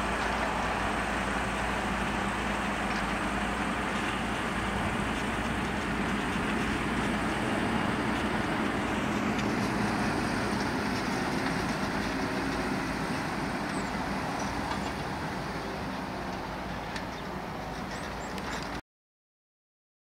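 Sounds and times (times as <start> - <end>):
tractor diesel engine running: 0.0 - 18.8.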